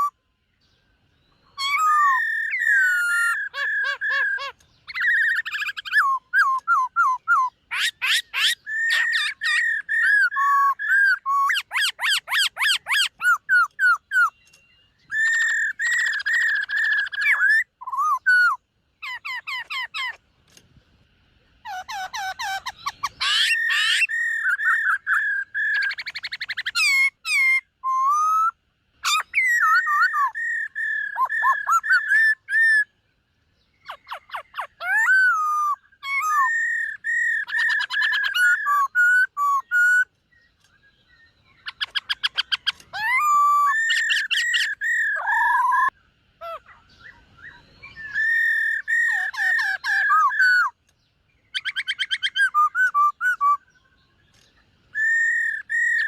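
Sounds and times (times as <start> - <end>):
bird singing whistled phrases: 0.0 - 20.2, 21.7 - 33.0, 33.7 - 50.8, 51.4 - 56.0.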